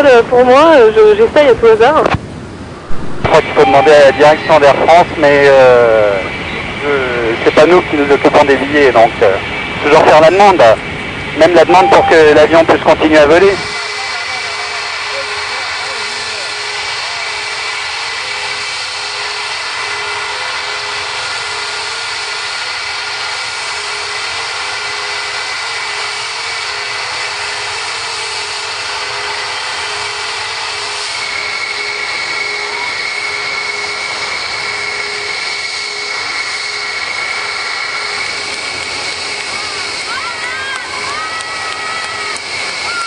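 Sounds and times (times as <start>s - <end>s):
jet engines idling with whine: 0.0s - 43.0s.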